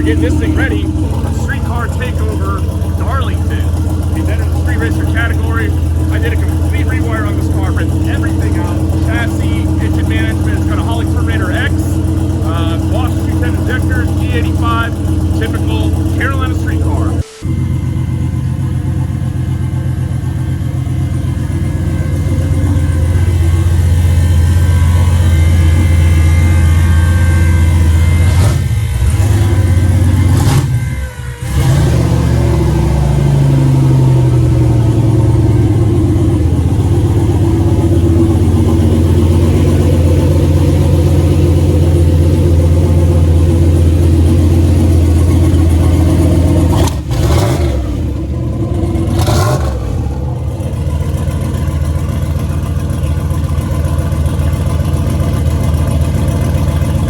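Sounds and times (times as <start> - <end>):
engine running hard on dyno: 0.0 - 57.0.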